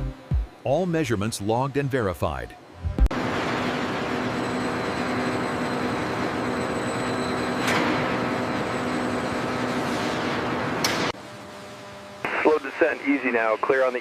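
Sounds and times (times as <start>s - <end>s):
factory machinery hum: 0.1s - 14.0s.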